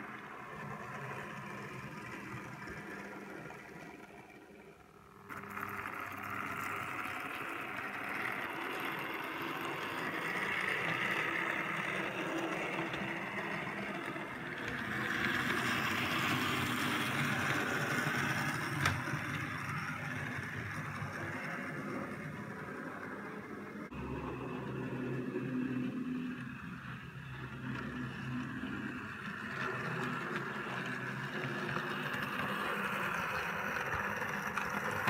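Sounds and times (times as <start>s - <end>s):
model railcar running on track: 0.0s - 35.0s.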